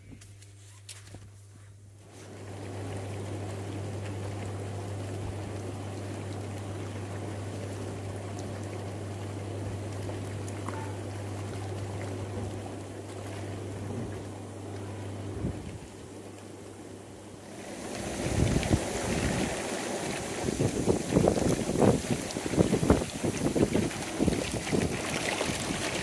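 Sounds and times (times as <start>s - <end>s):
hot tub jets bubbling water: 1.9s - 26.0s
pump humming: 2.0s - 26.0s.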